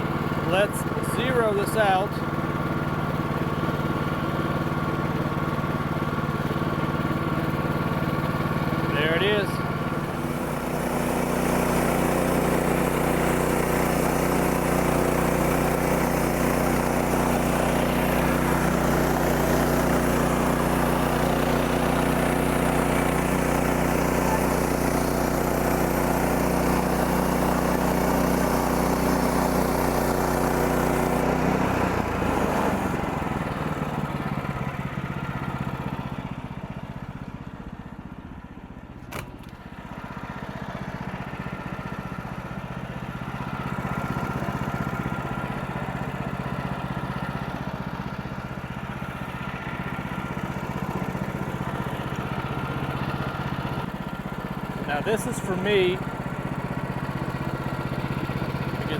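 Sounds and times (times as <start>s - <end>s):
gasoline engine running: 0.0s - 58.9s.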